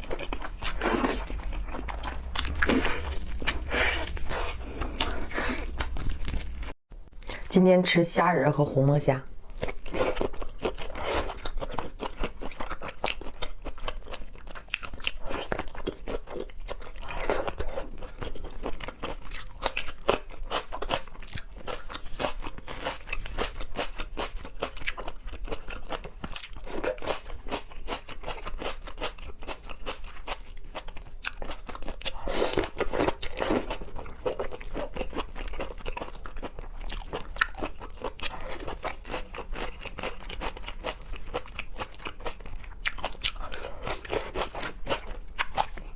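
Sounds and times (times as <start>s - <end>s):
crunching and chewing: 0.0s - 6.8s, 9.5s - 45.9s.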